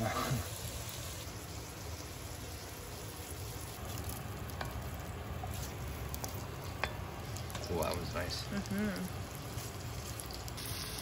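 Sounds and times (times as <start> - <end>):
scallops sizzling in a pot: 0.0 - 11.0.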